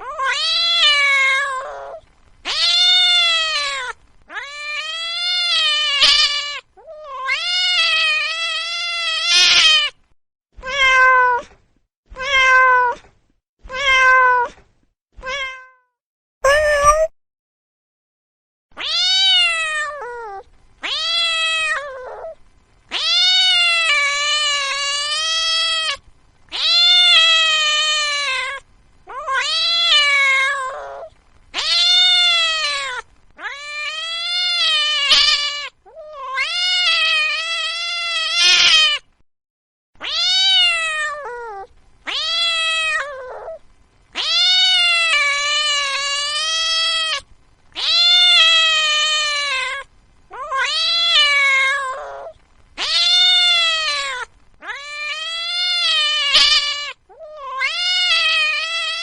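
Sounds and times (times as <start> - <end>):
cat meowing: 0.0 - 10.0, 10.6 - 13.1, 13.7 - 14.6, 15.2 - 17.1, 18.8 - 39.1, 40.0 - 43.6, 44.2 - 59.0.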